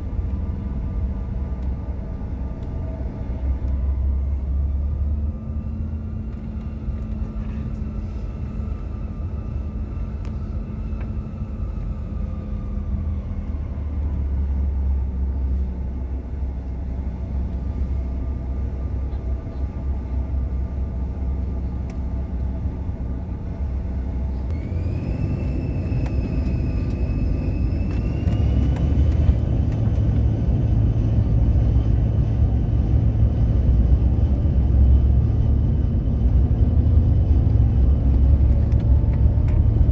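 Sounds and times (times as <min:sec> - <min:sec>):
jet engines humming and rumbling: 0:00.0 - 0:39.9
rising engine whine: 0:00.0 - 0:39.9.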